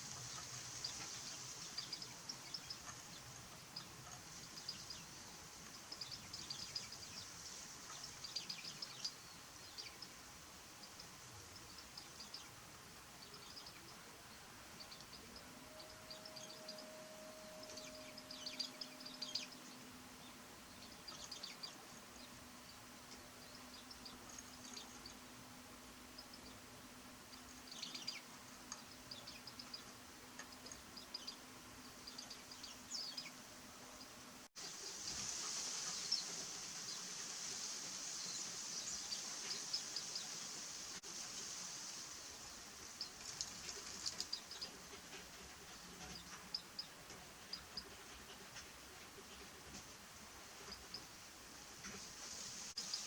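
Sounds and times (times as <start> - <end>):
birds chirping high: 0.0 - 40.8, 42.3 - 49.8
faint steady hum: 0.0 - 53.0
steady high-pitched hiss: 0.0 - 53.0.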